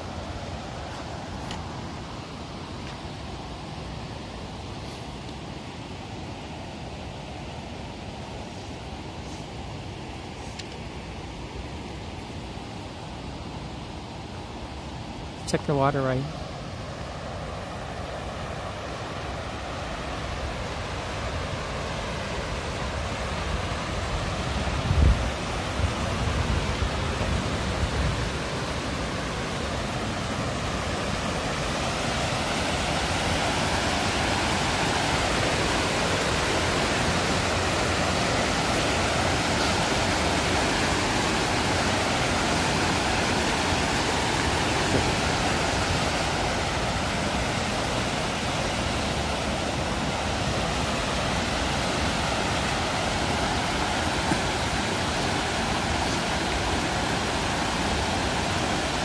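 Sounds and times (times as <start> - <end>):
water rushing over spillway: 0.0 - 59.0.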